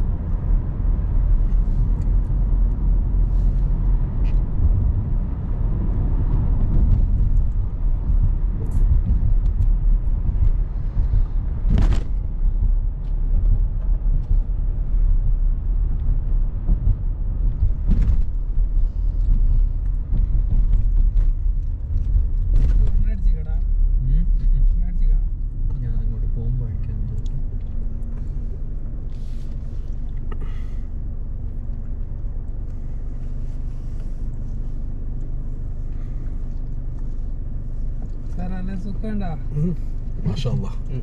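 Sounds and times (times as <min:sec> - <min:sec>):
car driving rumble from cabin: 0:00.0 - 0:41.0.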